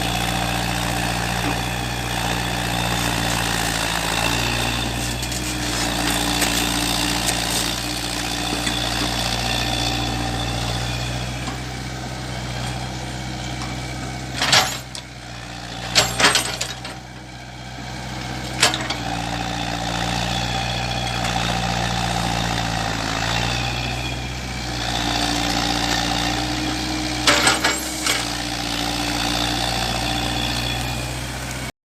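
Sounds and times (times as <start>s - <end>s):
heavy diesel engine running: 0.0s - 31.7s.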